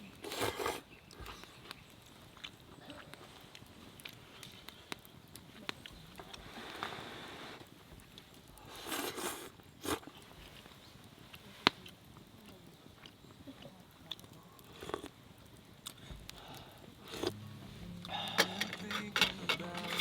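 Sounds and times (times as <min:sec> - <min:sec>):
quiet chewing: 0:00.0 - 0:17.4.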